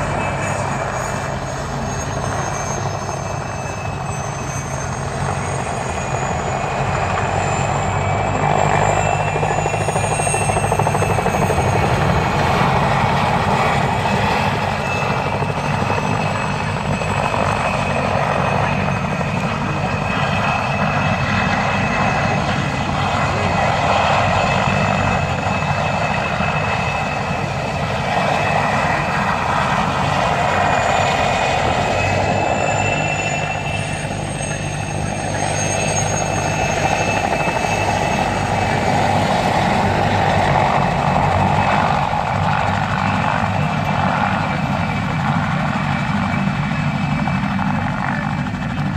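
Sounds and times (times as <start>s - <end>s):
helicopter rotor and engine drone: 0.0s - 48.9s.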